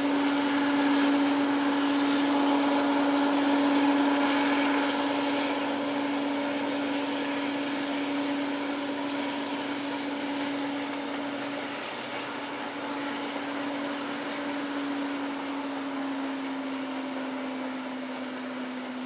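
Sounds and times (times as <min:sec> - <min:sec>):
train rolling past: 0:00.0 - 0:19.0.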